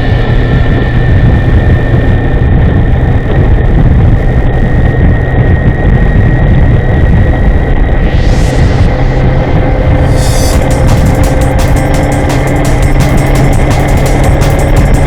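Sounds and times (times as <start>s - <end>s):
high-pitched whine: 0.0s - 15.0s
wind and road rumble: 0.0s - 15.0s.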